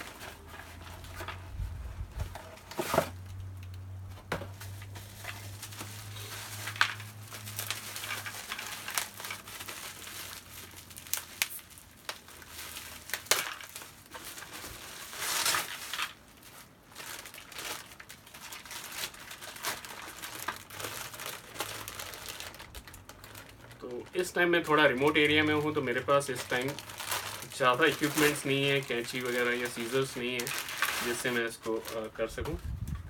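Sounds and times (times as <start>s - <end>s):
plastic packaging crinkling: 0.0s - 33.0s
rustling: 0.0s - 33.0s
plastic packaging tearing: 4.7s - 33.0s.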